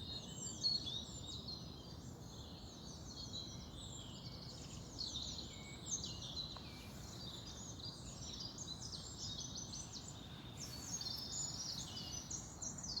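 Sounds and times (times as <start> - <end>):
songbirds chirping and trilling: 0.1 - 13.0.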